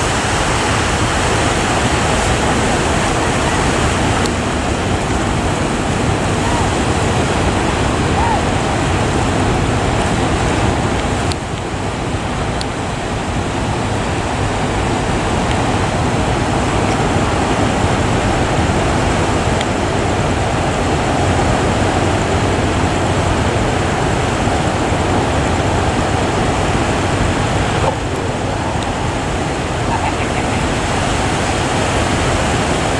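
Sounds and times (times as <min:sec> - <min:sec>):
big waves breaking: 0:00.0 - 0:32.9.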